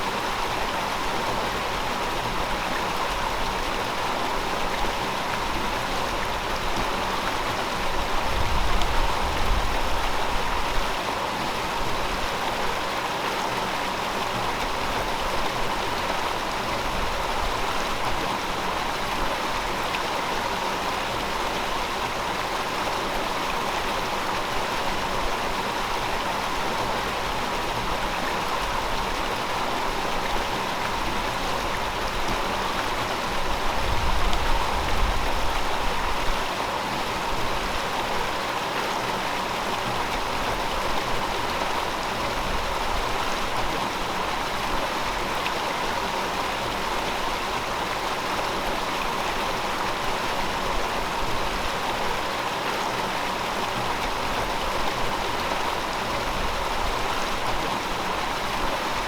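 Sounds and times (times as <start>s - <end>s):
river babbling: 0.0s - 59.0s.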